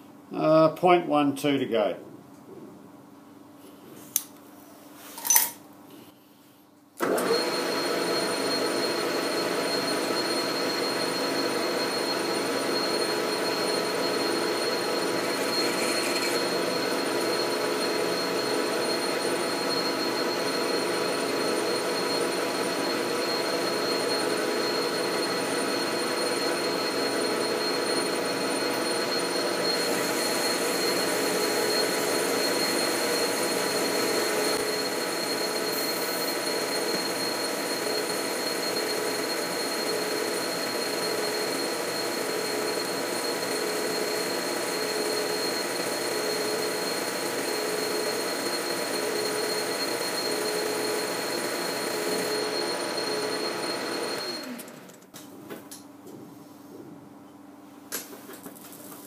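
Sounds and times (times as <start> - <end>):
lathe running with gear whine: 7.0 - 55.0.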